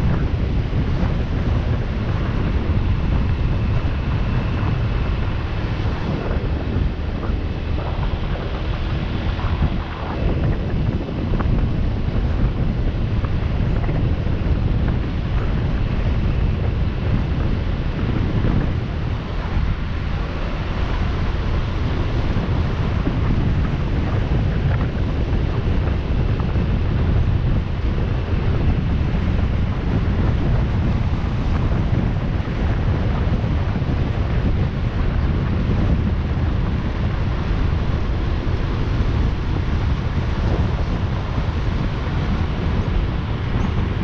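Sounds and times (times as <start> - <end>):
wind rushing over microphone: 0.0 - 44.0.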